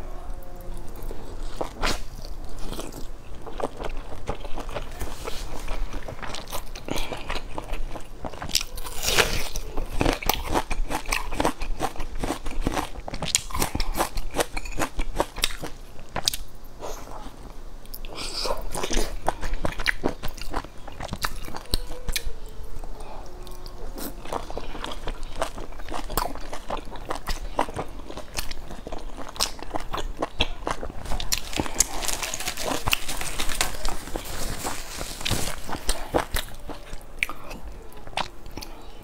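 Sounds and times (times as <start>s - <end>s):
person chewing: 0.1s - 39.0s.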